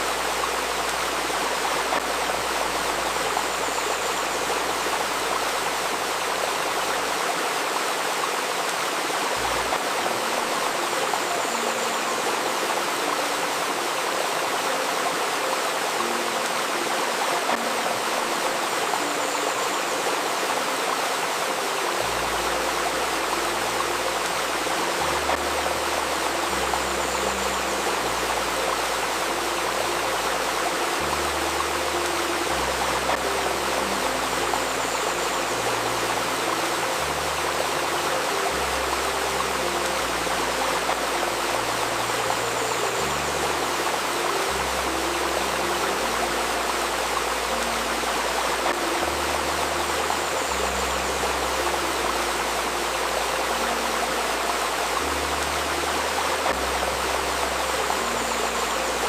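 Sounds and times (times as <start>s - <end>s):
river babbling over stones: 0.0s - 59.0s.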